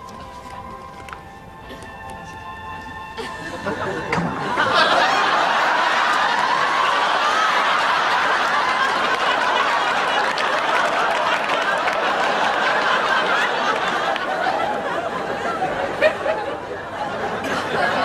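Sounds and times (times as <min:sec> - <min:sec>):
audience laughing: 0:02.8 - 0:18.0.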